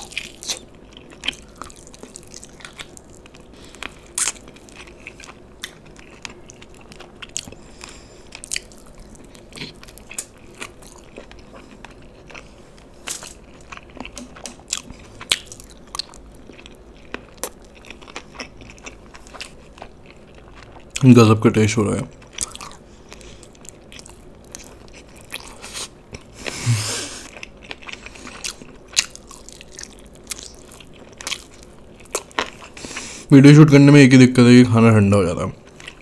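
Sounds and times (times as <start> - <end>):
biting and chewing crunches: 0.0 - 21.1, 22.1 - 26.6, 27.3 - 33.0.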